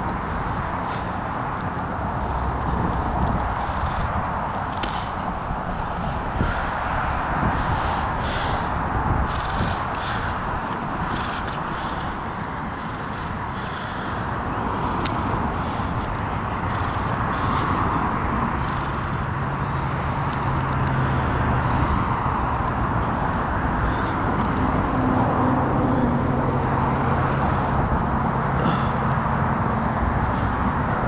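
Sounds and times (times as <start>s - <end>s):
cars passing on road: 0.0s - 31.0s.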